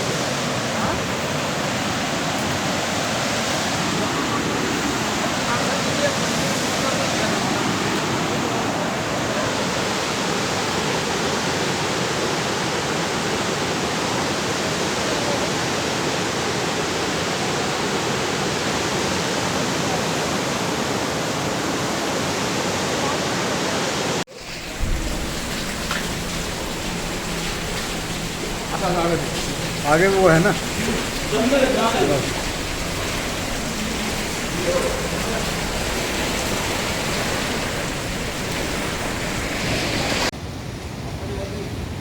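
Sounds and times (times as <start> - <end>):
river water rushing: 0.0 - 41.2.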